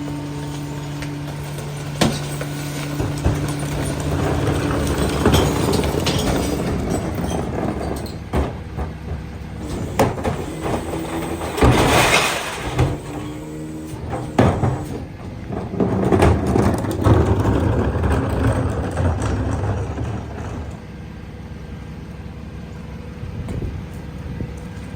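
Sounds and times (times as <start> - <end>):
garbage truck engine running: 0.0 - 24.9.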